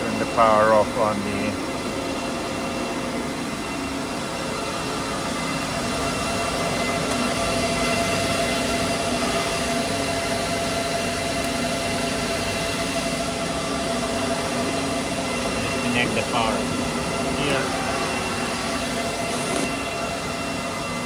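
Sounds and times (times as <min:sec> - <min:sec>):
cooling fans rushing air: 0:00.0 - 0:21.0
fan whining tones: 0:00.0 - 0:21.0.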